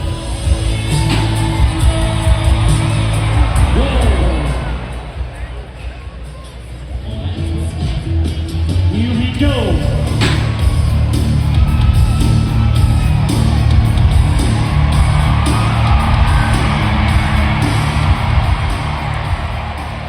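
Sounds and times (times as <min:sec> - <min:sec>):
loud music with heavy bass beat: 0:00.0 - 0:20.0
people yelling and whooping: 0:00.0 - 0:20.0.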